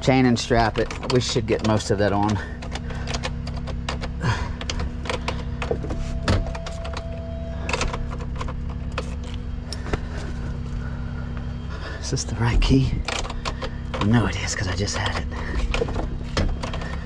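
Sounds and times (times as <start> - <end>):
clicks and knocks of controls: 0.0 - 10.1, 12.6 - 17.0
truck engine idling: 0.0 - 17.0.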